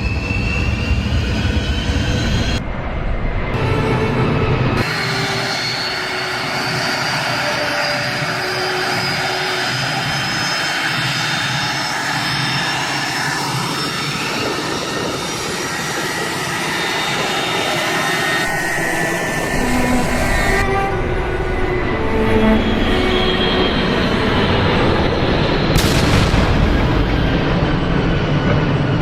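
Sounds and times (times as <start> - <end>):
faint high whine: 0.0 - 25.7
jet engines running: 0.0 - 29.0.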